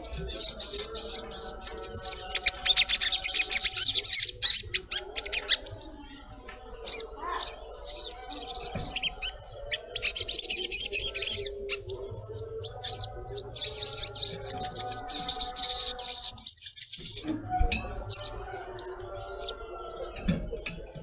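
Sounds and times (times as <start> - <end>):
sunbird chirps and trills: 0.0 - 20.8.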